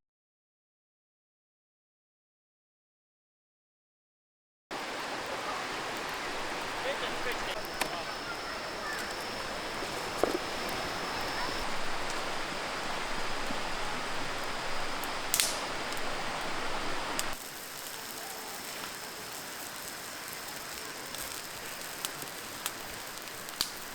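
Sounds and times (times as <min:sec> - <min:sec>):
wood fire hissing and popping: 0:04.7 - 0:23.9.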